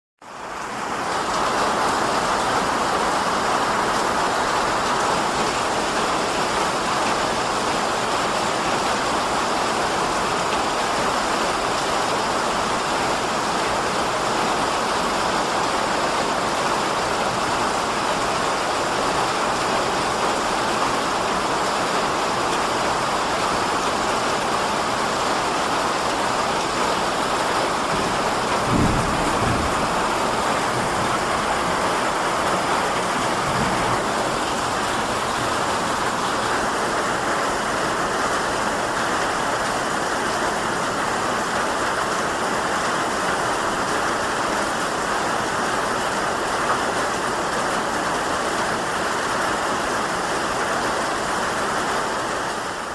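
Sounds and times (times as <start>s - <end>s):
rain on a tin roof: 0.2s - 52.9s.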